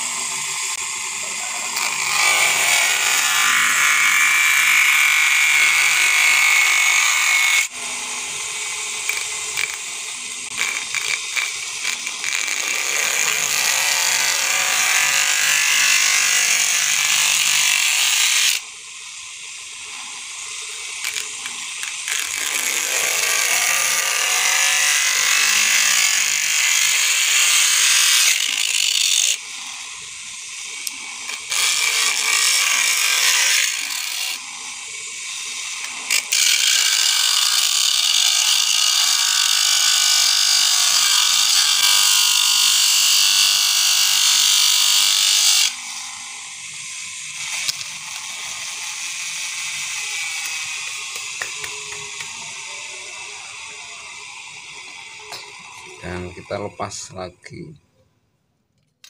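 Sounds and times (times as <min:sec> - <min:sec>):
electric motor running: 0:00.0 - 0:57.0
cutting disc grinding wood: 0:00.0 - 0:57.3.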